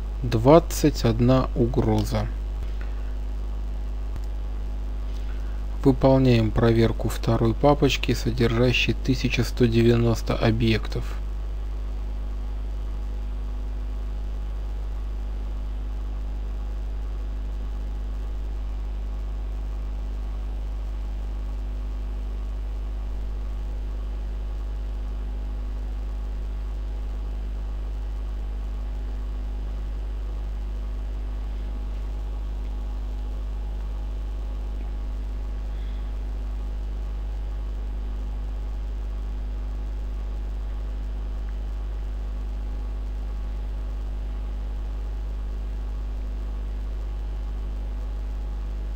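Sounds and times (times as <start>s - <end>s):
electrical mains hum: 0.0s - 48.9s.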